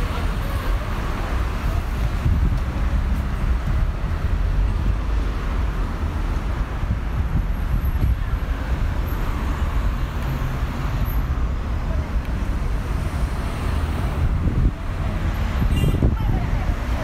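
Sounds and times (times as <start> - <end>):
road traffic going by: 0.0 - 17.0.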